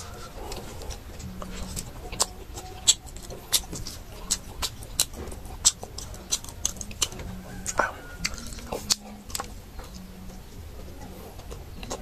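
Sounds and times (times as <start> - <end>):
soft wet chewing: 0.0 - 12.0.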